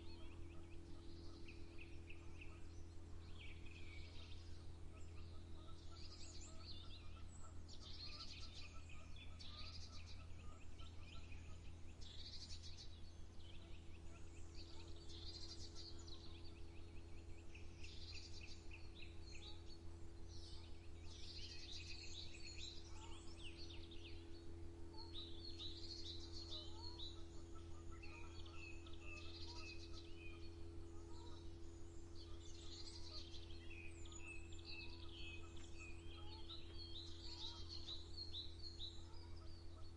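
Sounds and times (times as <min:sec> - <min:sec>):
birds singing: 0:00.0 - 0:39.9
steady low hum: 0:00.0 - 0:39.9.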